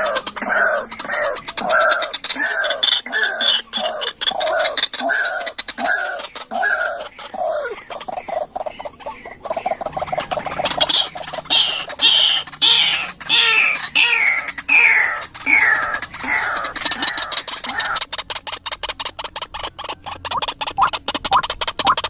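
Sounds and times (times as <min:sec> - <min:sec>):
fast crackly ticking: 0:00.0 - 0:22.0
waterhen calling: 0:00.0 - 0:22.0.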